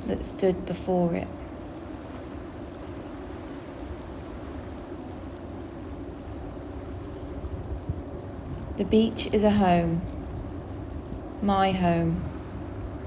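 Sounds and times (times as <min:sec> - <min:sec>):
low rumble of sea: 0:00.0 - 0:13.0.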